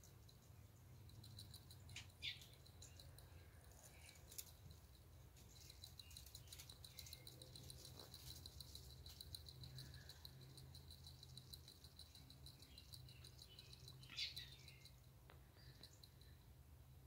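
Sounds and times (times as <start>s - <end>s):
faint high chirps: 0.0s - 4.7s, 5.4s - 17.0s
rapid high ticking: 0.0s - 16.4s.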